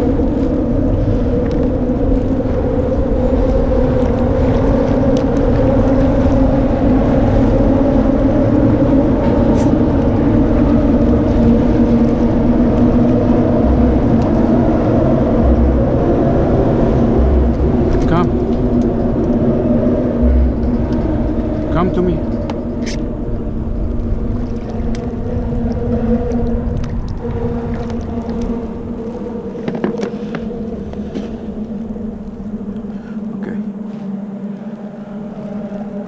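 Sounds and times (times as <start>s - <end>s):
small boat motor drone: 0.0s - 36.0s.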